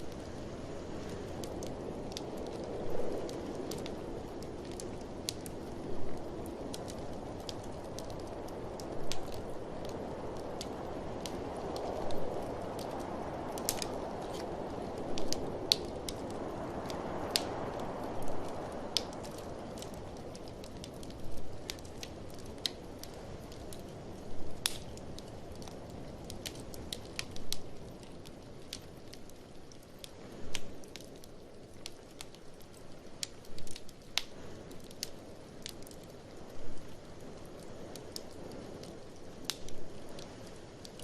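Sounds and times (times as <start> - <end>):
blizzard wind whooshing: 0.0 - 41.0
wood fire crackling and popping: 0.0 - 41.0.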